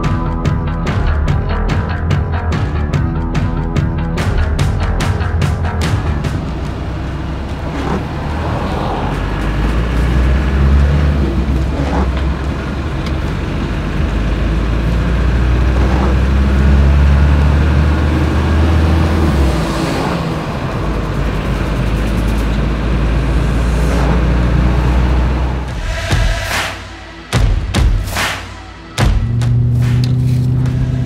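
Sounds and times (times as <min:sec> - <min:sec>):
deep engine drone: 0:00.0 - 0:31.0
road noise: 0:00.0 - 0:31.0.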